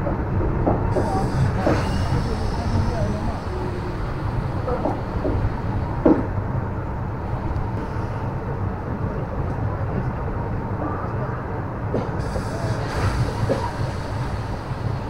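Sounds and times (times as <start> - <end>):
train wheels rumbling: 0.0 - 10.1, 11.8 - 15.0.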